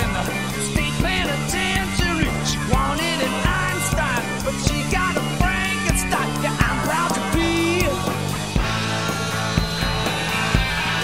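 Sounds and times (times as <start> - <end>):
rock drum kit with cymbals: 0.0 - 11.0
rock song with electric guitar: 0.0 - 11.0.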